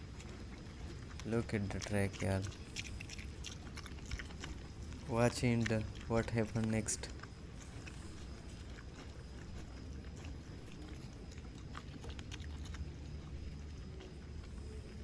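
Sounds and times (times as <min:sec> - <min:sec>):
wild boar chewing: 0:00.0 - 0:15.0.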